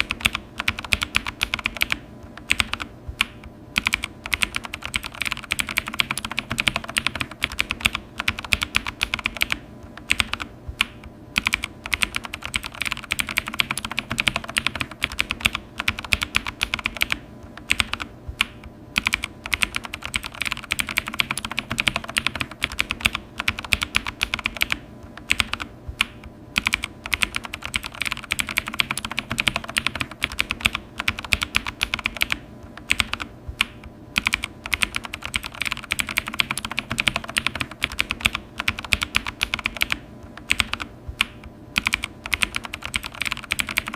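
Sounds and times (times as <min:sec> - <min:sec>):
typing on a keyboard: 0:00.0 - 0:43.9.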